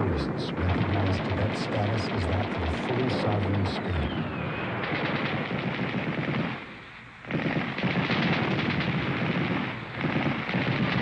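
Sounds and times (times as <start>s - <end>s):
rapid automatic gunfire: 0.6s - 4.2s, 4.8s - 6.6s, 7.2s - 11.0s.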